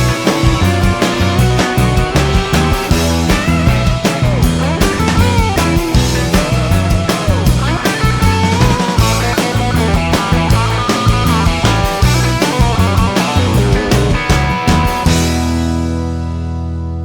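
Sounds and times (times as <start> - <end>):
rock music with drums and guitar: 0.0 - 17.0.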